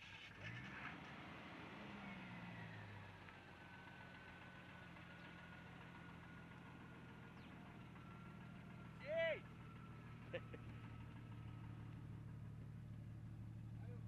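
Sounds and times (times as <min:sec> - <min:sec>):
faint engine idling: 0:00.0 - 0:14.0.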